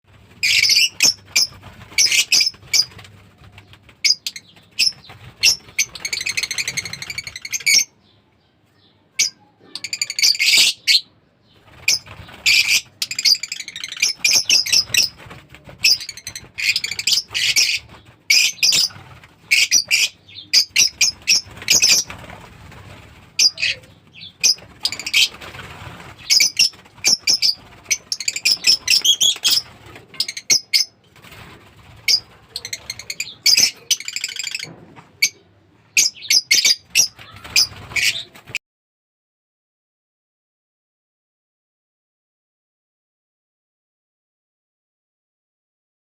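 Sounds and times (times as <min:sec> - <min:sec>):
birds calling in high bursts: 0:00.2 - 0:31.1, 0:31.8 - 0:38.6.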